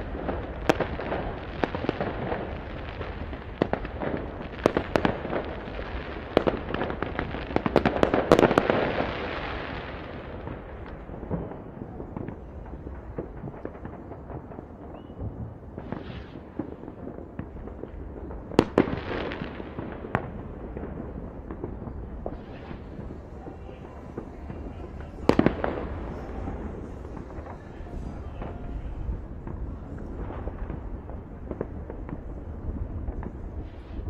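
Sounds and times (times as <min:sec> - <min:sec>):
firework crackle: 0:00.0 - 0:34.0
fireworks bangs: 0:00.0 - 0:34.0.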